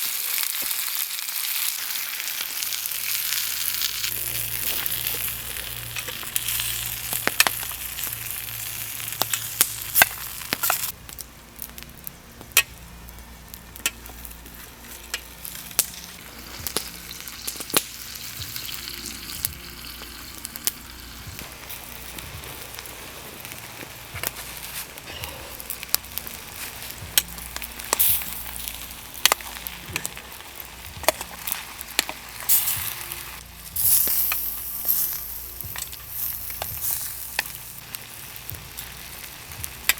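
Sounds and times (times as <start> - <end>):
food sizzling in a pan: 0.0 - 11.0, 12.6 - 39.9.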